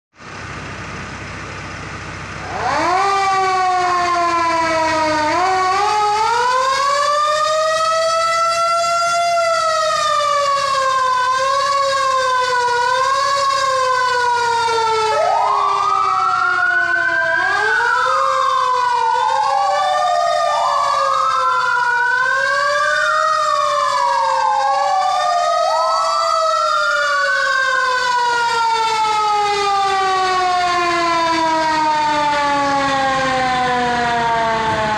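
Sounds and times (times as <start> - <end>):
fire truck siren wailing: 0.2 - 34.9
second siren wailing faster: 2.4 - 34.9.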